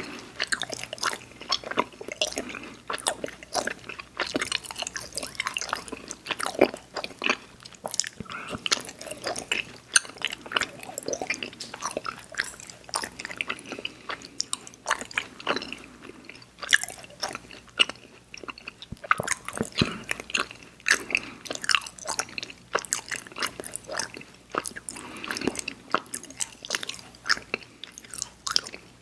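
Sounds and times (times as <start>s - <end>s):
person chewing sticky candy: 0.0s - 29.0s.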